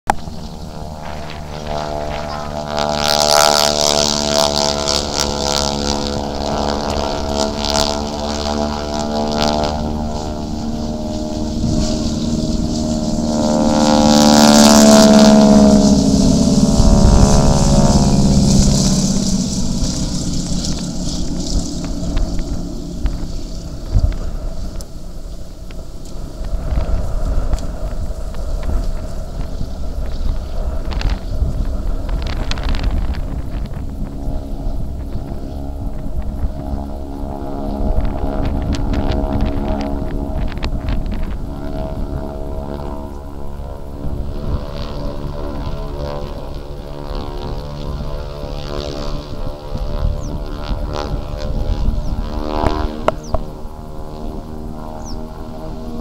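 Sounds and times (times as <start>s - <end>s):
propeller plane engines droning: 0.1s - 56.0s
wind buffeting microphone: 0.1s - 56.0s.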